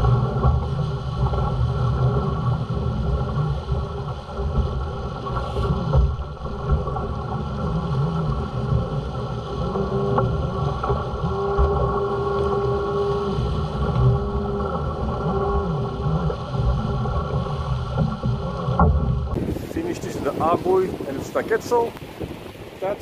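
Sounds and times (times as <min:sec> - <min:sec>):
water rushing along boat hull: 0:00.0 - 0:23.0
wind buffeting microphone: 0:00.0 - 0:23.0.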